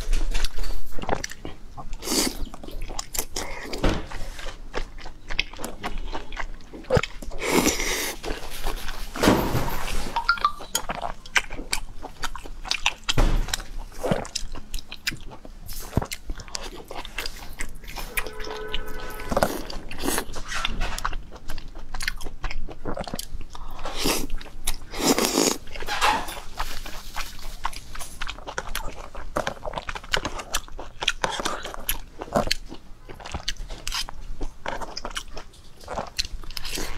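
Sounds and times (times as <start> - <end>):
person eating and chewing: 0.0 - 9.2, 9.8 - 36.9.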